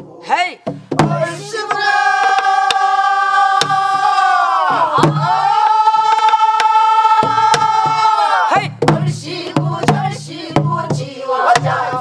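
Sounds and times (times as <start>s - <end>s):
group singing folk song in unison: 0.0s - 0.3s, 0.9s - 12.0s
barrel drums beaten with sticks: 0.0s - 12.0s.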